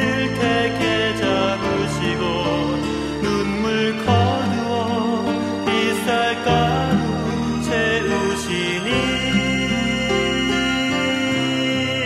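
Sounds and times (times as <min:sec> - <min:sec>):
instrumental worship music chords: 0:00.0 - 0:12.0.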